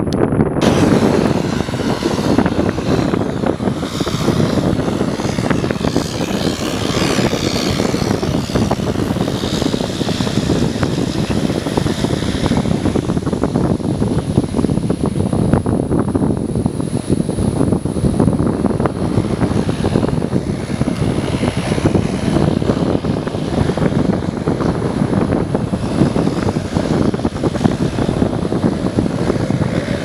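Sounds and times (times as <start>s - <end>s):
propeller engines droning: 0.0s - 30.0s
turbine whine: 0.0s - 30.0s.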